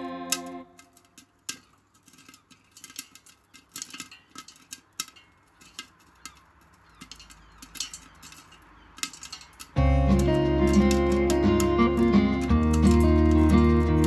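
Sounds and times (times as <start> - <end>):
popcorn popping in a pot: 0.3 - 14.0.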